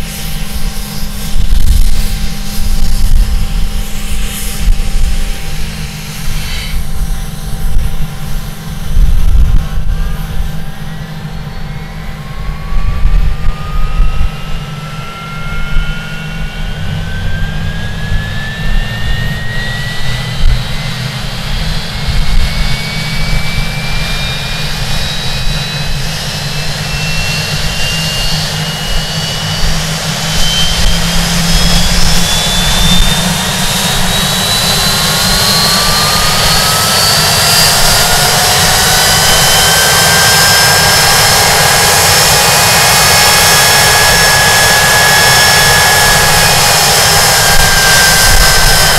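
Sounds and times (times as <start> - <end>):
jet engine high-pitched whine: 0.0 - 48.9
jet engine low rumble: 0.0 - 48.9.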